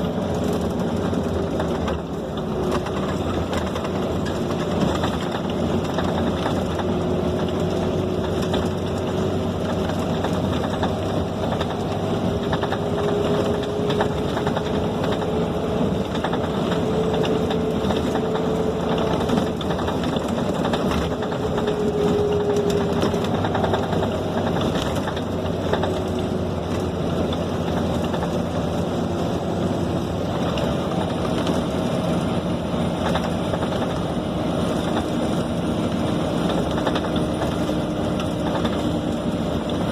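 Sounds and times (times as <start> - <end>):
bus diesel engine and road noise: 0.0 - 39.9.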